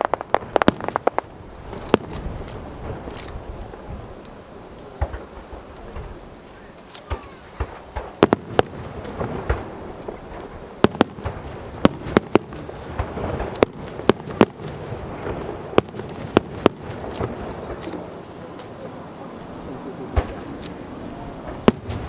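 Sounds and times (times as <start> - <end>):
background hubbub: 0.0 - 22.0
fireworks bangs: 0.0 - 22.0.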